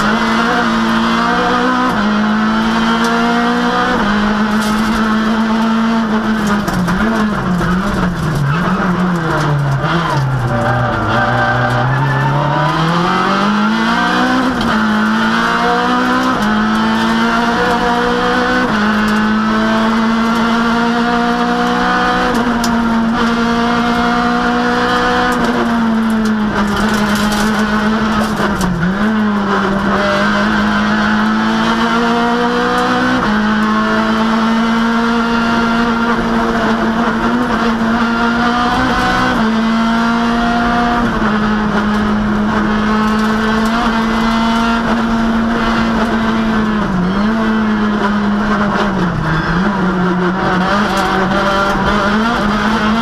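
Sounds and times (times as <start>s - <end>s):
car engine at full throttle: 0.0s - 53.0s.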